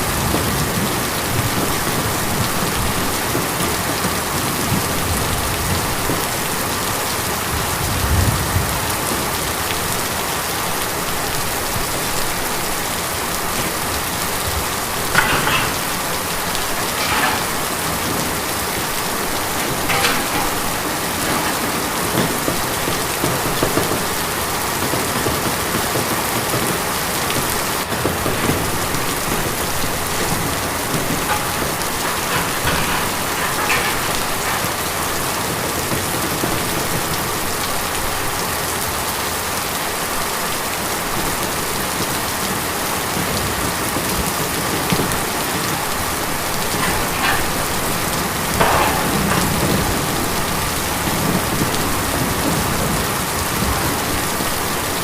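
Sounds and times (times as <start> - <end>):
loud raindrops striking: 0.0 - 55.0
rain on a tin roof: 0.0 - 55.0.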